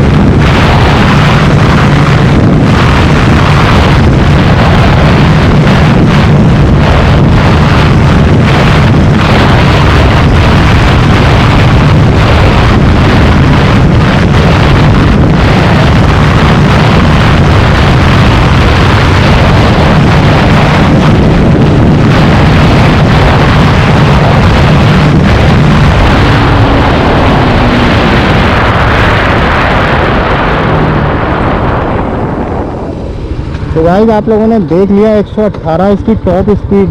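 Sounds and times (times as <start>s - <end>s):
motorcycle engine at high revs: 0.0s - 36.9s
wind rushing past microphone: 0.0s - 36.9s.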